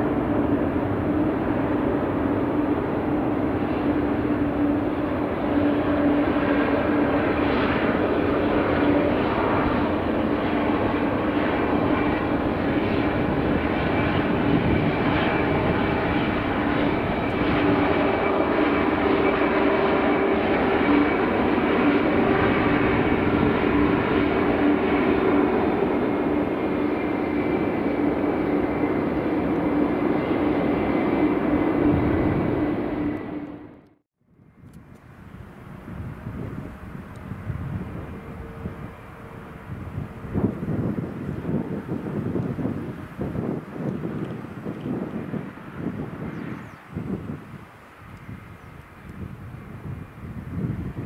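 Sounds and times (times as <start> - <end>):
jet engines running: 0.0 - 51.0.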